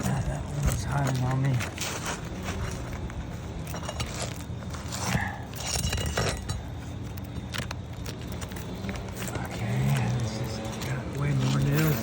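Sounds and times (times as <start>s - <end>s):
tool scraping under shingles: 0.0s - 12.0s.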